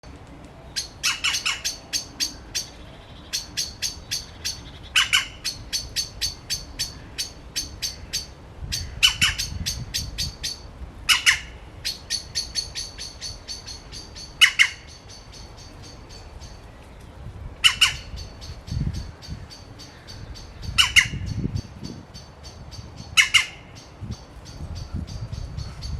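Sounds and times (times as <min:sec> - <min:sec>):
birds alarm calls: 0:00.7 - 0:16.6, 0:17.6 - 0:25.9
birds harsh squawks: 0:00.7 - 0:16.6, 0:17.6 - 0:25.9.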